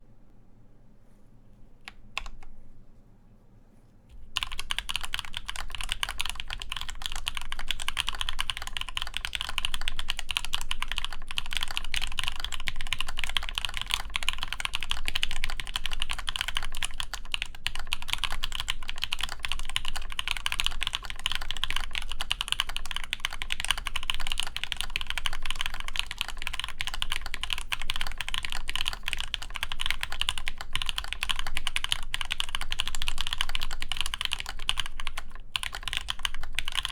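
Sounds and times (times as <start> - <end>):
mechanical keyboard typing: 2.2 - 2.5, 4.4 - 36.9.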